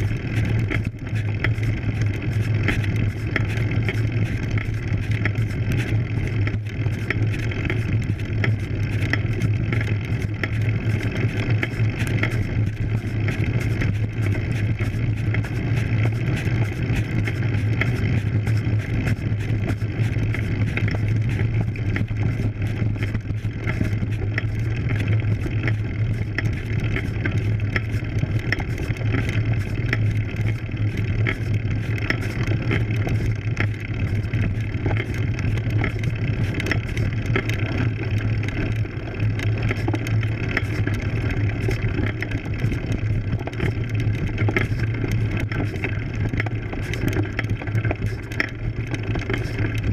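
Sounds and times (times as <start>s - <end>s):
bike rolling on dirt road: 0.0s - 49.9s
rattling and ticking of tyres: 0.0s - 49.9s.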